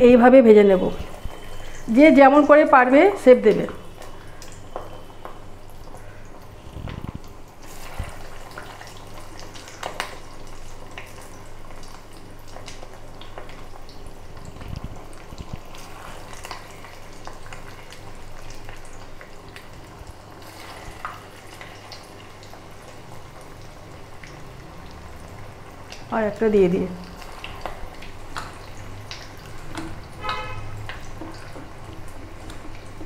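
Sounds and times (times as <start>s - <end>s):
batter sizzling in oil: 0.0s - 33.0s
oil crackling and popping: 3.6s - 26.1s, 26.7s - 33.0s.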